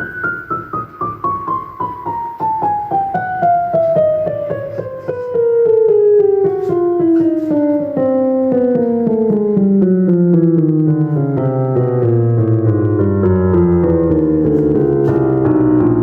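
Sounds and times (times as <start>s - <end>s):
descending piano notes on keyboard: 0.0s - 16.0s.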